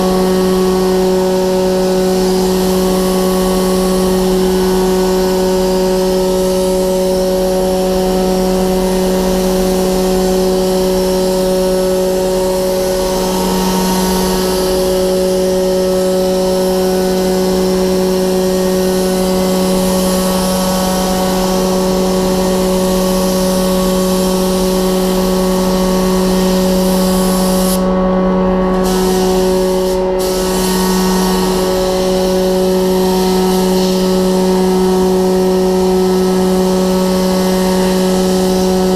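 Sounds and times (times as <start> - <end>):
paint spray gun hissing: 0.0 - 28.0, 28.7 - 38.9
ventilation hum: 0.0 - 38.9.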